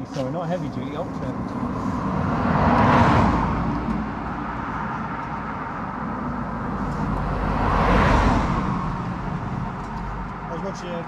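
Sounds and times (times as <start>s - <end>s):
car passing: 0.0s - 11.0s
low rumble of traffic: 0.0s - 11.0s.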